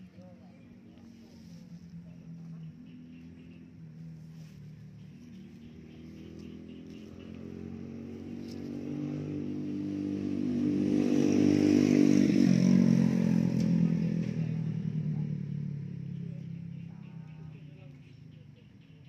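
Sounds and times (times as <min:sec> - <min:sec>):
motorcycle passing by: 0:00.0 - 0:19.0.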